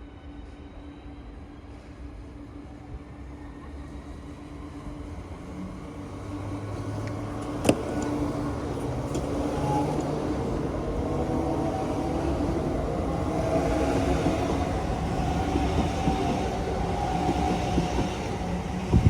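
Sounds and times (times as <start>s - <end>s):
electric train approaching: 0.0s - 19.0s.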